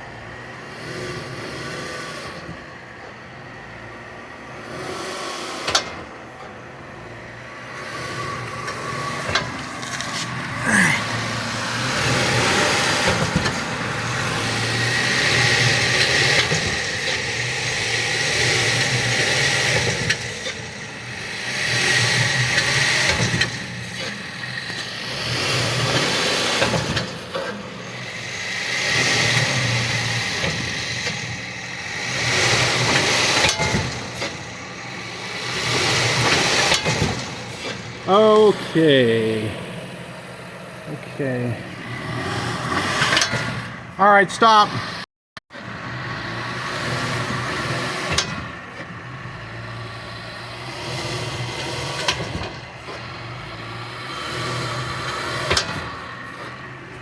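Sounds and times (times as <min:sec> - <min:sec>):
car engine with wheels whirring: 0:00.0 - 0:57.0.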